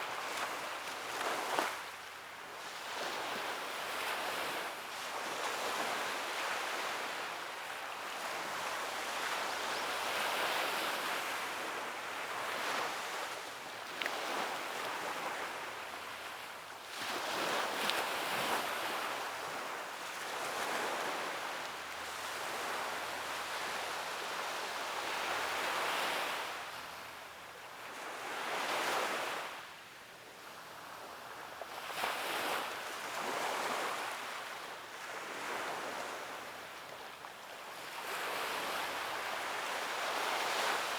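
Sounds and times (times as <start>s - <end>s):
sea waves breaking on a beach: 0.0s - 29.8s, 30.4s - 40.9s.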